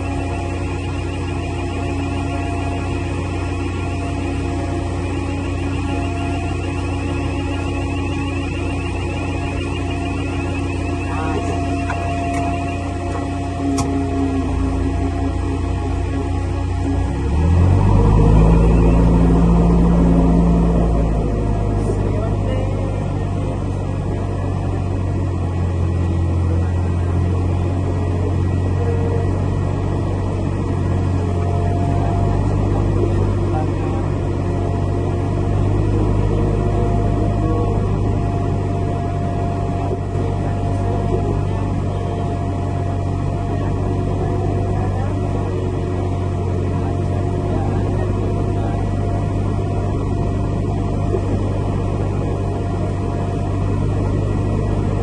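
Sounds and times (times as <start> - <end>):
airliner engines droning: 0.0 - 55.0.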